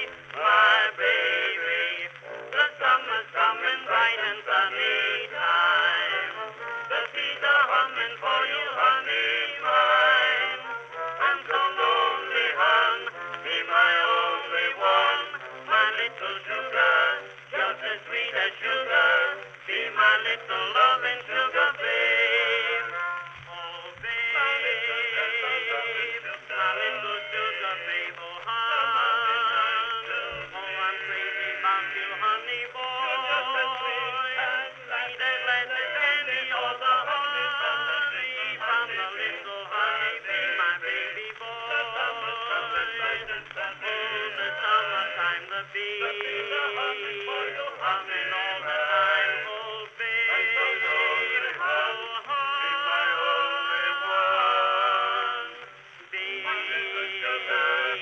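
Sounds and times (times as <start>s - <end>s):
old-time popular song: 0.0s - 58.0s.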